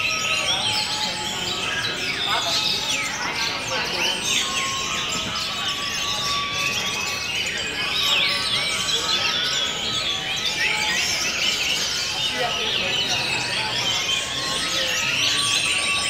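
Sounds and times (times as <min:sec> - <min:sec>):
thrushes singing: 0:00.0 - 0:16.0.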